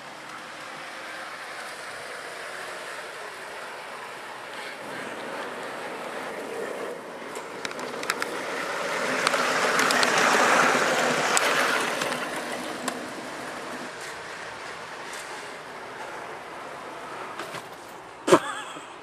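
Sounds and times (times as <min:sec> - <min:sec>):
miniature train rolling: 0:00.0 - 0:18.4
wheels clicking on track: 0:00.0 - 0:18.7.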